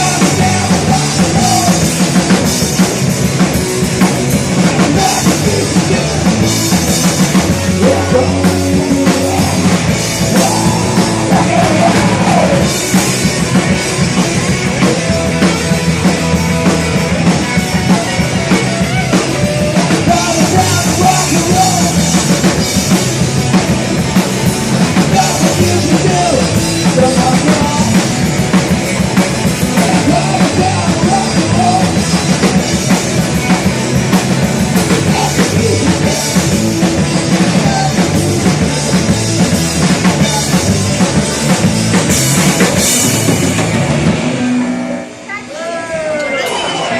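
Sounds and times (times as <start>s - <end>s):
drum kit hitting hard: 0.0s - 44.6s
live rock band: 0.0s - 46.9s.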